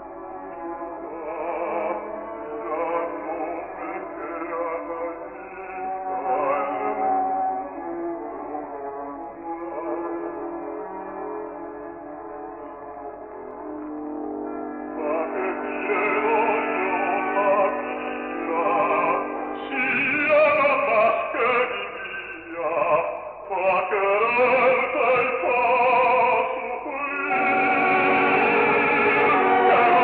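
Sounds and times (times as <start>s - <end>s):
operatic orchestral music: 0.0s - 23.1s, 23.8s - 30.0s.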